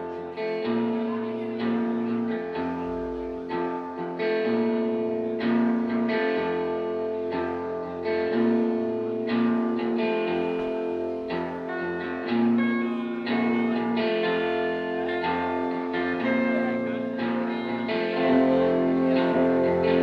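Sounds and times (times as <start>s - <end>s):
electric guitars playing chords: 0.0s - 20.0s.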